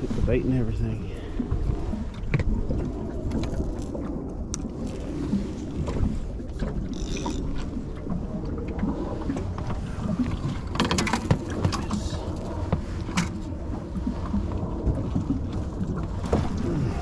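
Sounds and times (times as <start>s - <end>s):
low rumble of wind and water: 0.0s - 17.0s.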